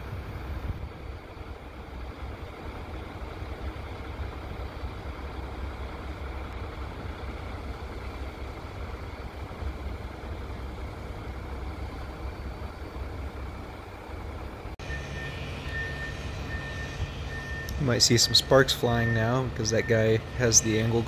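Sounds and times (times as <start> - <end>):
heavy engine idling: 0.0 - 21.0.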